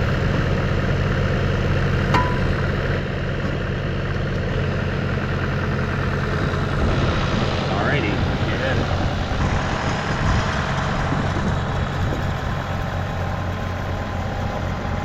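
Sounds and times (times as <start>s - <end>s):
sawmill engine idling: 0.0s - 15.0s.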